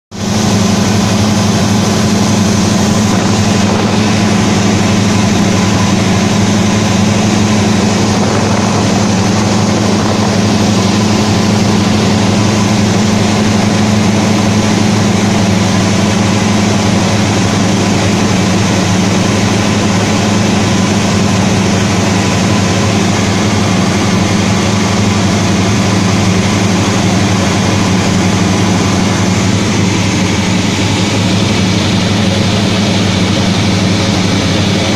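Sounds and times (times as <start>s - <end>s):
rush of air: 0.1s - 34.9s
aircraft engine droning in cabin: 0.2s - 34.9s.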